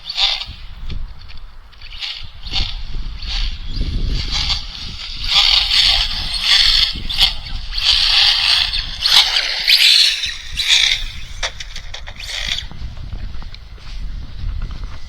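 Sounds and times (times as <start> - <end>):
electric rc car motor bursts: 0.0 - 13.8
wind rumbling on microphone: 0.0 - 15.0.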